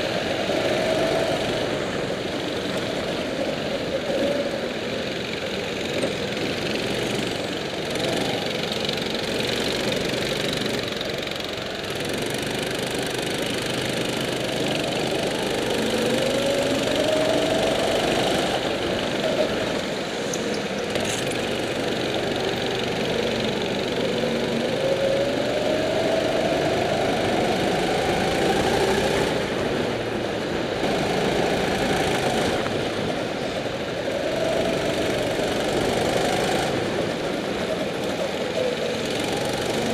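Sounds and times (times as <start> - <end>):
go-kart engine revving: 0.0 - 39.9
other go-kart engines: 0.0 - 39.9.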